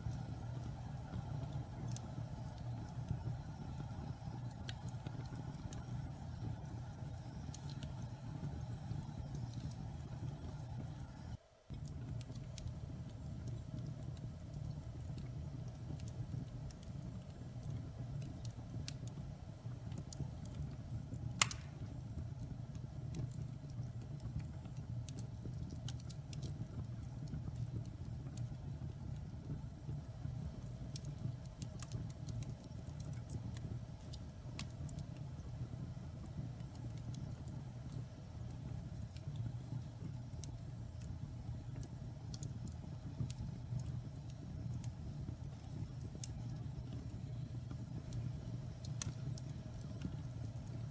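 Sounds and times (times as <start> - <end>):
fire popping: 0.0 - 50.9
wood fire crackling: 0.0 - 50.9.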